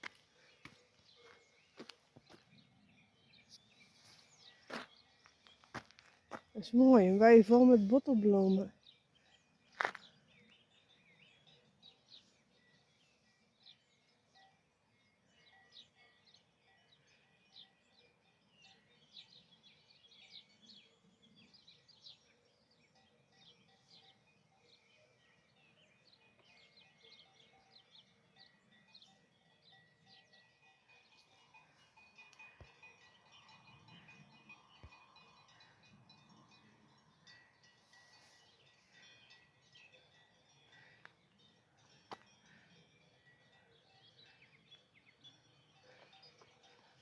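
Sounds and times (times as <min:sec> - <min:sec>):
faint birdsong chirps: 0:00.0 - 0:47.0
quiet countryside ambience: 0:00.0 - 0:47.0.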